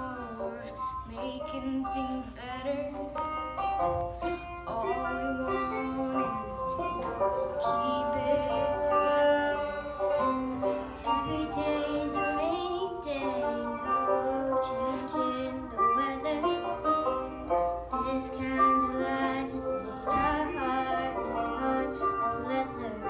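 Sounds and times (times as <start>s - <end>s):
girl singing into microphone: 0.0s - 23.0s
instrumental backing track: 0.0s - 23.0s.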